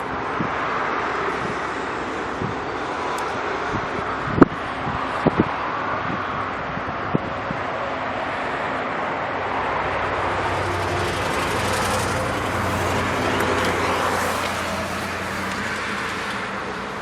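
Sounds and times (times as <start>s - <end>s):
motor vehicle hum: 0.0s - 17.0s.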